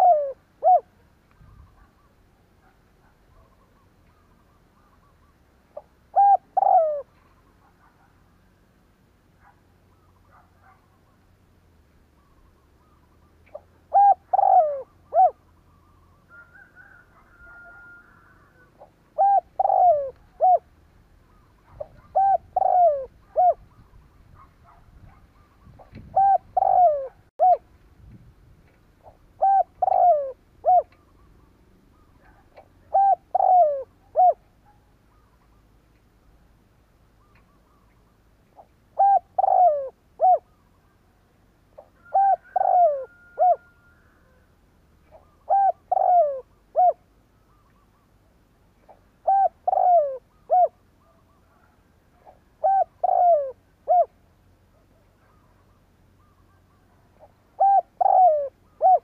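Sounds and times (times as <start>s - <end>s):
dove cooing: 0.0s - 8.4s, 12.2s - 27.7s, 29.0s - 35.7s, 37.2s - 41.0s, 41.8s - 48.2s, 48.8s - 59.0s.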